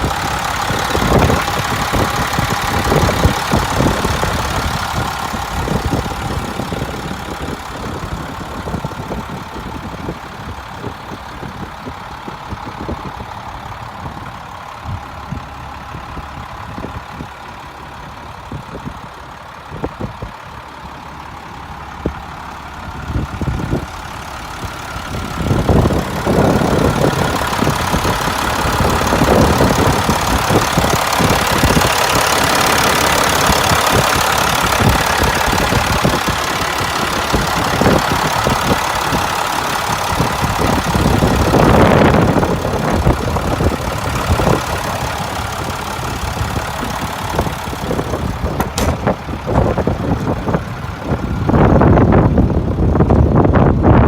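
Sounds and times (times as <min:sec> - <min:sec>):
diesel truck engine clattering: 0:00.0 - 0:54.0.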